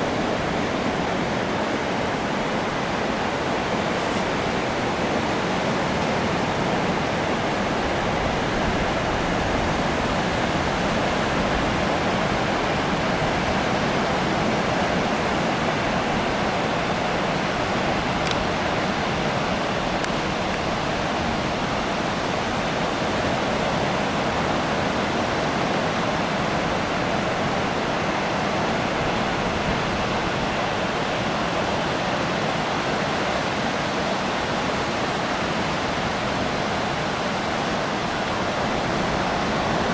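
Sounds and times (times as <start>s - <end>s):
surf breaking on beach: 0.0s - 39.9s.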